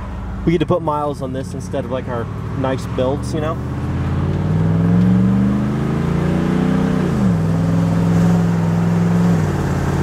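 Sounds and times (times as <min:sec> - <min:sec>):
pickup truck engine accelerating: 0:00.0 - 0:10.0.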